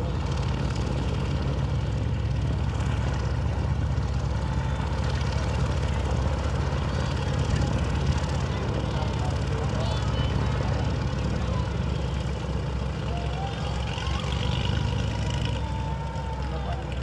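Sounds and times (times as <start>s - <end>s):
propeller aircraft engines idling: 0.0s - 17.0s.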